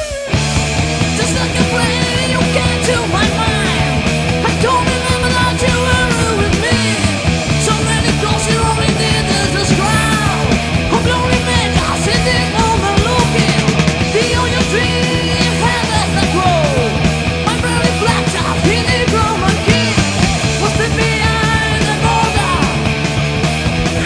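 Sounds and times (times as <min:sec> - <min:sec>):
heavy metal band playing: 0:00.0 - 0:24.0.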